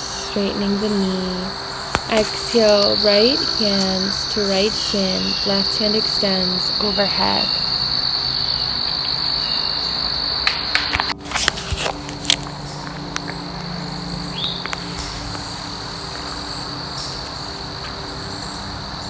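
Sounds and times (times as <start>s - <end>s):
insects chirping chorus: 0.0s - 19.0s.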